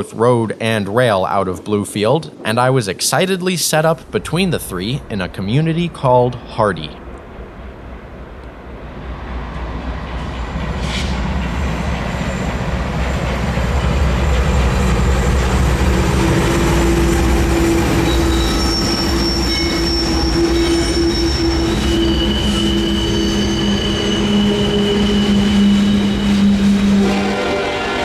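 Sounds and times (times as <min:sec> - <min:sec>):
train rumbling past: 0:01.0 - 0:28.0
wheels squealing on rails: 0:03.8 - 0:28.0.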